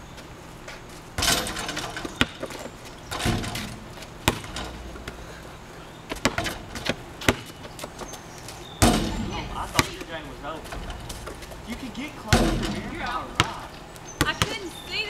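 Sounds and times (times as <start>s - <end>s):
basketballs bouncing on concrete: 1.2s - 5.4s, 6.1s - 15.0s.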